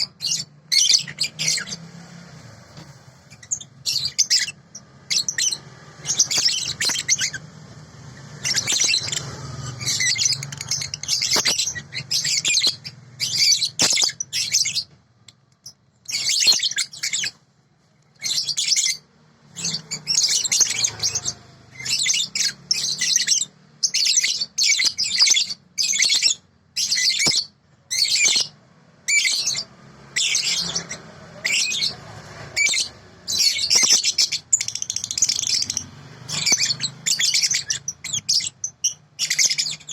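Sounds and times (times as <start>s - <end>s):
lovebird chirping: 0.0s - 2.0s, 3.2s - 15.0s, 15.6s - 17.4s, 18.1s - 32.0s, 32.6s - 39.9s.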